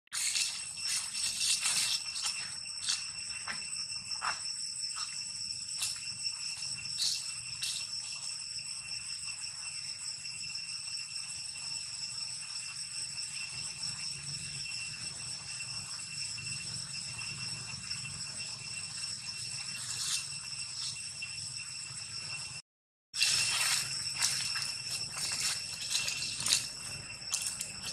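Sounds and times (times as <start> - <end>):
high-pitched insect drone: 0.1 - 27.9.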